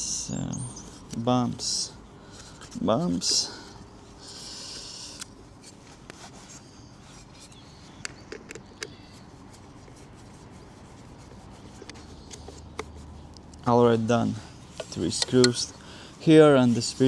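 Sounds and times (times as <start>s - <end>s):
light rubbing of parts: 0.8s - 17.0s.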